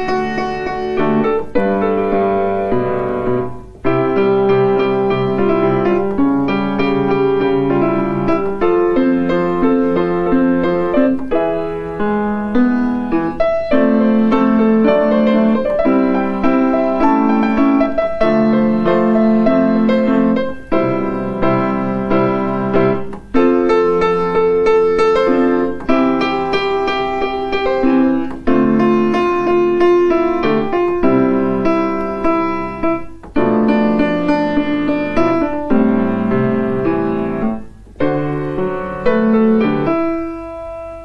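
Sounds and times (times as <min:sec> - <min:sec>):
solo piano melody: 0:00.0 - 0:41.0.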